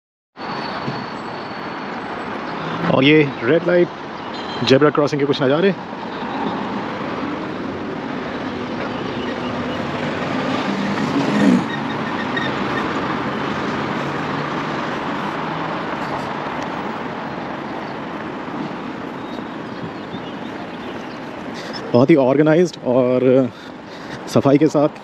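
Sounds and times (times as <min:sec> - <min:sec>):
road traffic passing: 0:00.4 - 0:25.0.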